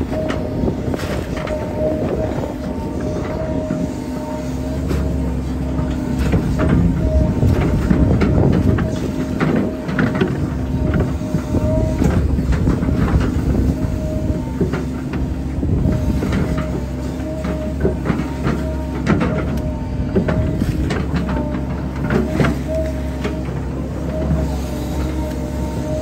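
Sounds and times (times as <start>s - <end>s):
excavator engine rumble: 0.0s - 26.0s
hydraulic whine: 0.0s - 26.0s.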